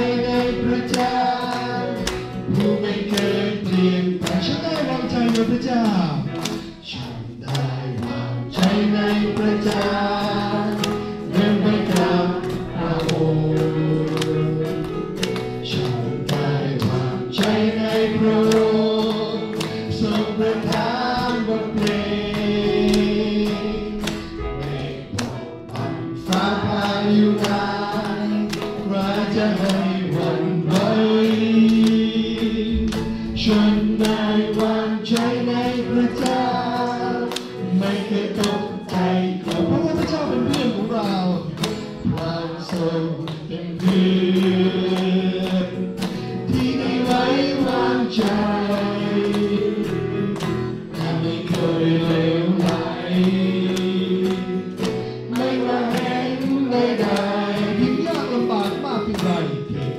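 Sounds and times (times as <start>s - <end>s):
acoustic guitar strumming: 0.0s - 59.9s
group singing worship song: 0.0s - 59.9s
hand clapping: 0.0s - 59.9s.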